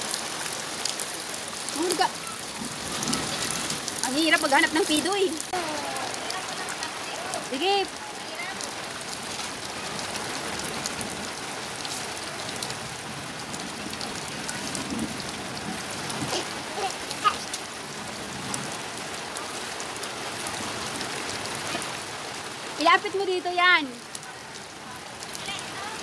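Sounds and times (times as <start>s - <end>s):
rain on a wet street: 0.0s - 26.0s.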